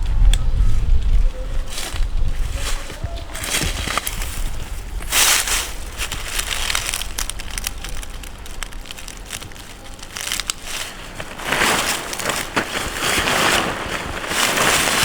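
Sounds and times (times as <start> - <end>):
crinkling sheet material: 0.0 - 15.0.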